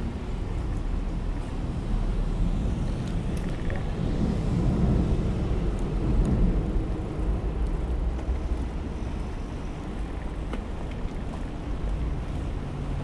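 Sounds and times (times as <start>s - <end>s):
wind on microphone: 0.0s - 12.6s
bicycle tyres on tiled paving: 0.0s - 13.0s
city traffic: 0.0s - 13.0s.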